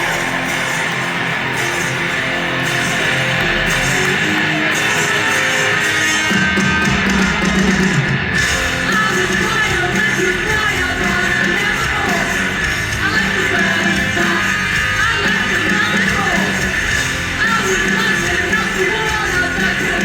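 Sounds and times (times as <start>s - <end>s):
punk rock band playing live: 0.0s - 20.0s.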